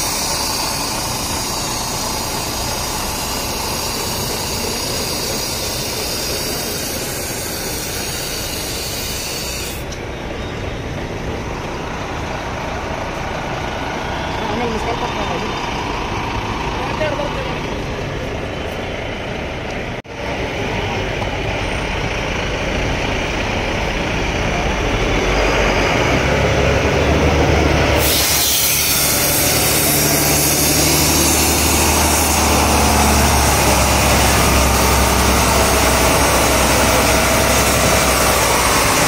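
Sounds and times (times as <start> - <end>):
bus diesel engine: 0.0 - 39.0.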